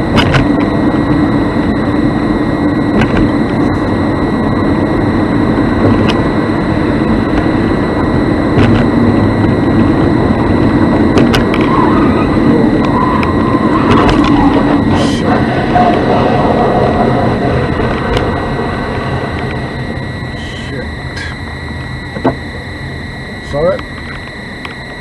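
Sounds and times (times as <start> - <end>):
road and engine noise: 0.0 - 25.0
thin high whine: 0.0 - 25.0.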